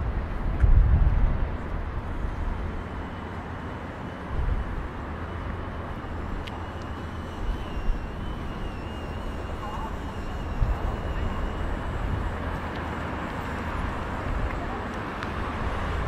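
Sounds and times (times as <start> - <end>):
distant traffic hiss: 1.4 - 16.0.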